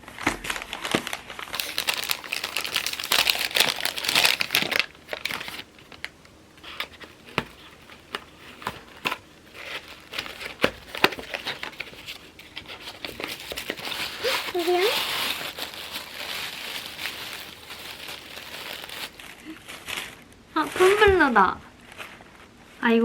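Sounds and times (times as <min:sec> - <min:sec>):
packaging crinkling and tearing: 0:00.0 - 0:20.3.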